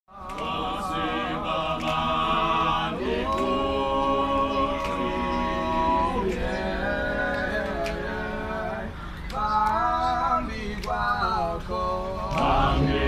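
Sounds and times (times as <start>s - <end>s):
group singing a cappella: 0.1s - 13.0s.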